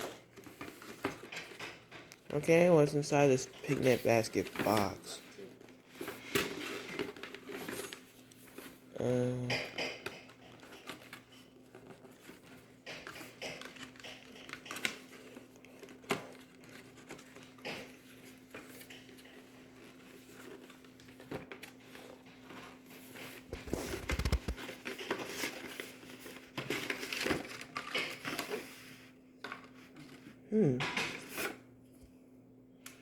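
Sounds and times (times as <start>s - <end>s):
paper crinkling and rustling: 0.0s - 8.9s, 9.5s - 30.4s.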